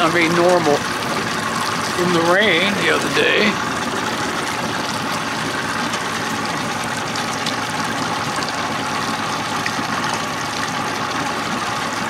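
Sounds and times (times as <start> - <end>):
boat motor running: 0.0 - 12.0
water splashing: 0.0 - 12.0.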